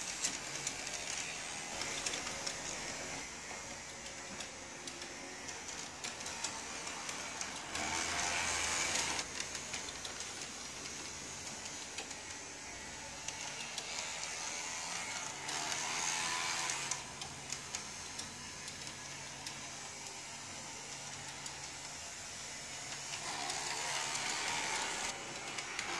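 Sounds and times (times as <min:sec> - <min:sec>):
model tram motor and wheels: 0:00.0 - 0:25.9.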